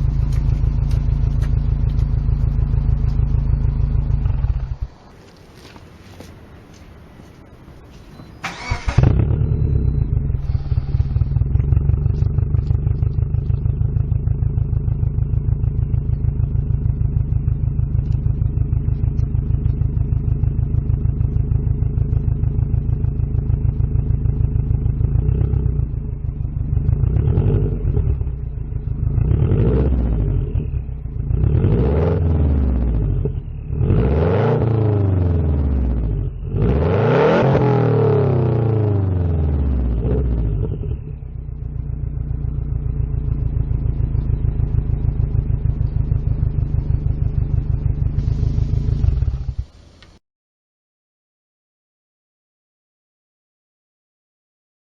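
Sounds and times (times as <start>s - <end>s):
car engine idling and revving: 0.0s - 50.2s.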